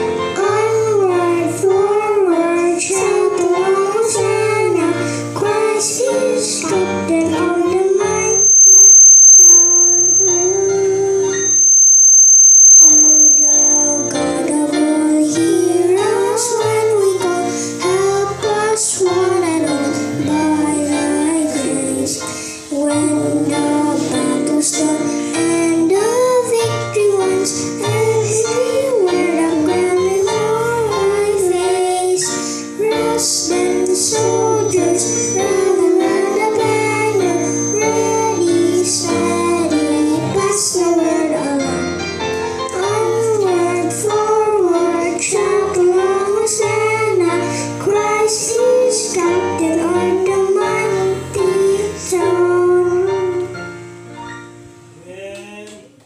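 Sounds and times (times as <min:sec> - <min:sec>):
children singing into microphones: 0:00.0 - 0:53.9
instrumental accompaniment: 0:00.0 - 0:55.6.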